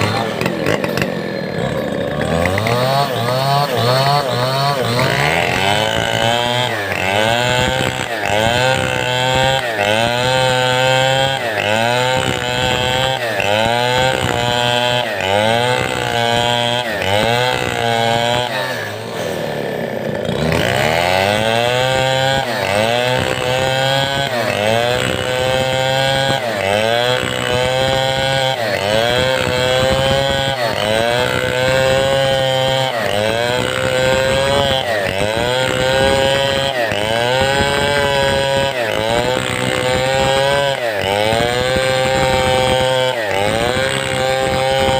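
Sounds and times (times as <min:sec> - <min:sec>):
chainsaw cutting timber: 0:00.0 - 0:44.9.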